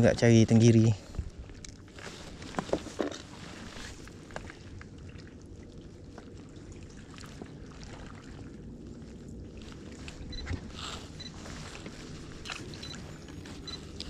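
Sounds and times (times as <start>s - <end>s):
water lapping around boat: 0.0s - 14.0s.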